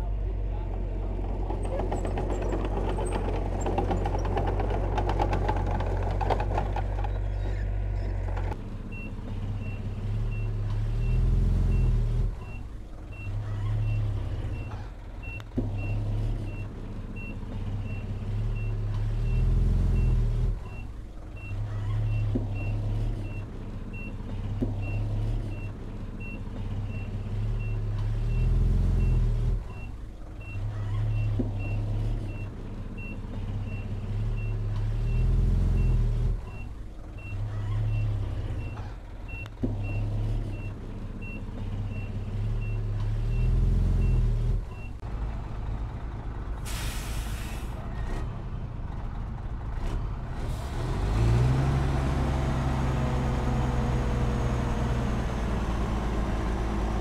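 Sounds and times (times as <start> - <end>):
heavy diesel engine: 0.0 - 57.0.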